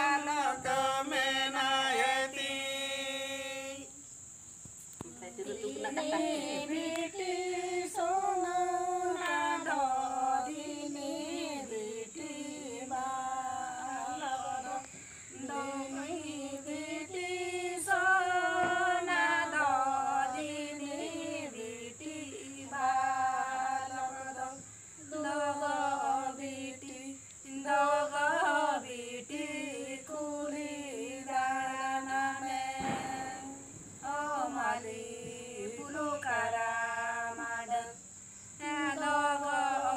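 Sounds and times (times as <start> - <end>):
women singing unaccompanied: 0.0 - 4.1, 5.0 - 39.9
crickets chirring: 0.0 - 39.9.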